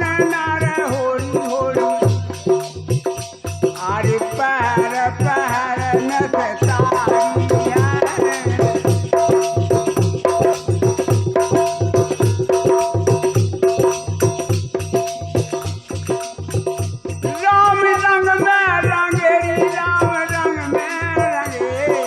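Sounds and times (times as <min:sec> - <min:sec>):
drum beat: 0:00.0 - 0:22.0
jingling rattle percussion: 0:00.0 - 0:22.0.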